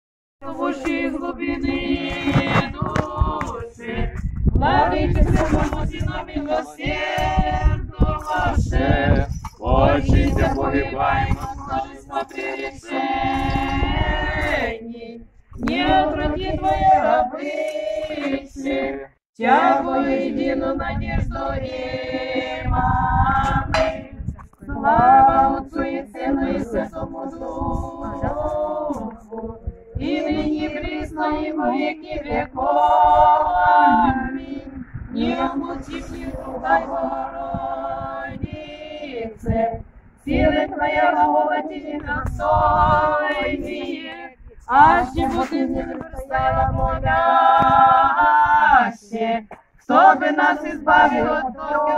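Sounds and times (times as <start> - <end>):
women's voices chanting unaccompanied: 0.4 - 51.9.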